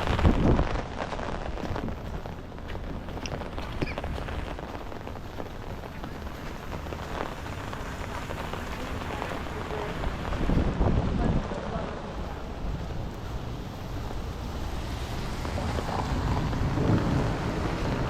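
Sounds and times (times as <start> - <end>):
raindrops ticking close by: 0.0 - 18.0
steady rain hiss: 0.0 - 18.0.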